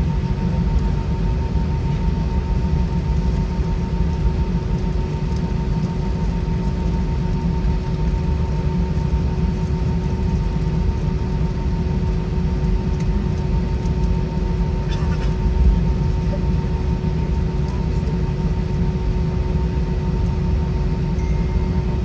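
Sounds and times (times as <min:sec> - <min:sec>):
airplane cabin rumble: 0:00.0 - 0:22.0
jet engine whines: 0:00.0 - 0:22.0.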